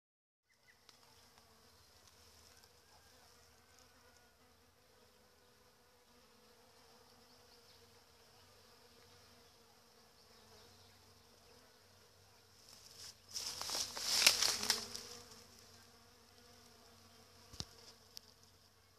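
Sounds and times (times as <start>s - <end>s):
bees buzzing: 3.2s - 18.6s.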